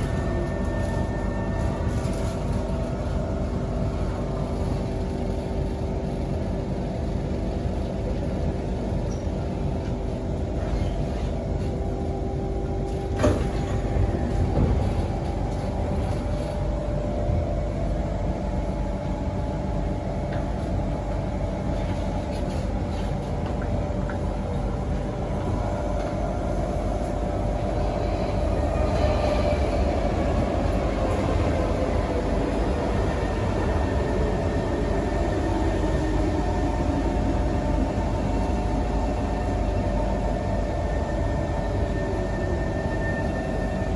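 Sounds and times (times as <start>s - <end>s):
metro train rumble and wheel noise: 0.0s - 43.9s.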